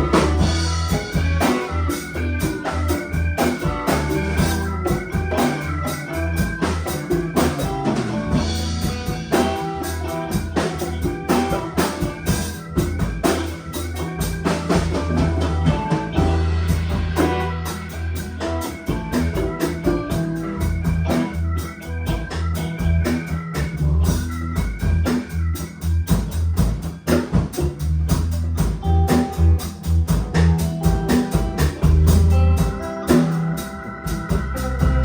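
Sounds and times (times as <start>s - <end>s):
bass line: 0.0s - 35.0s
drums steady beat: 0.0s - 35.0s
organ-toned keyboard melody: 0.0s - 35.0s.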